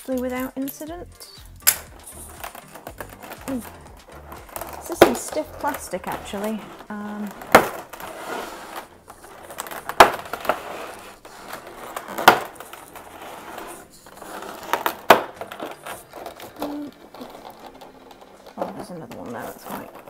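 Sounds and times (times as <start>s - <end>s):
plastic packaging crinkling: 1.3s - 20.0s.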